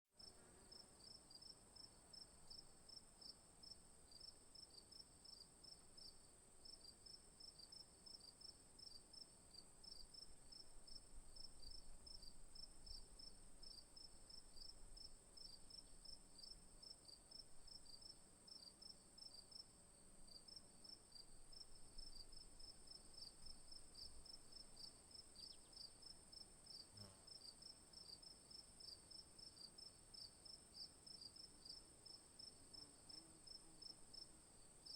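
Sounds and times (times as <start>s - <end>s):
insect chorus buzzing and chirping: 0.2s - 34.9s.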